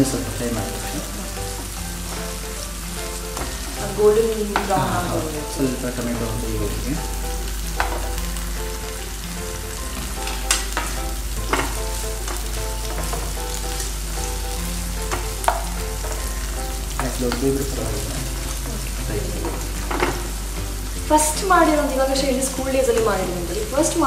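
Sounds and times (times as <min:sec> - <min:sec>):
onion and tomato sizzling in oil: 0:00.0 - 0:24.0.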